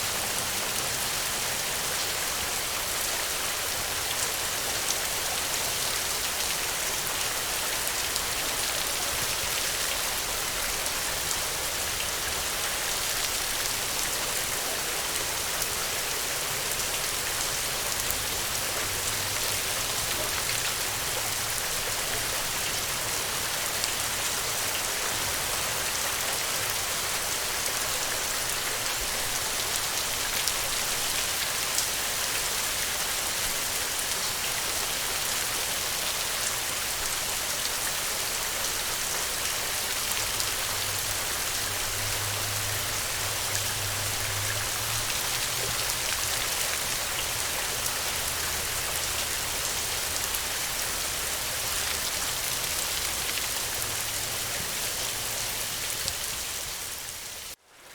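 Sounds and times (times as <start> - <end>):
steady rain on ground: 0.0 - 57.9.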